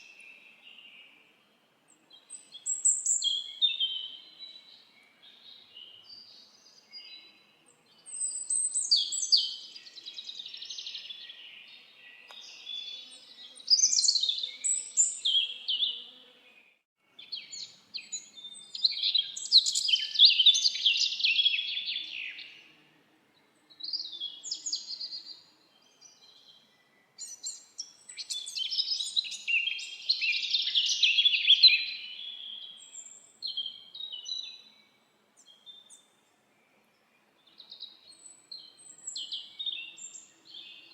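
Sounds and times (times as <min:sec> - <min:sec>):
songbirds twittering: 0:00.0 - 0:22.7, 0:23.3 - 0:40.9.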